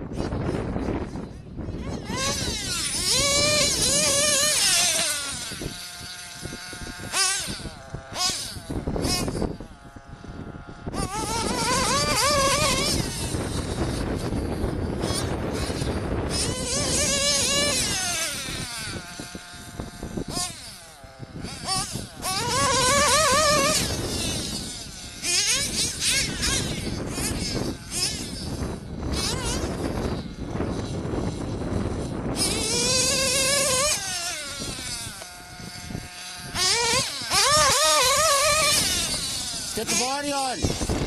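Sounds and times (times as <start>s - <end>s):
nitro engine revving: 0.0s - 41.0s.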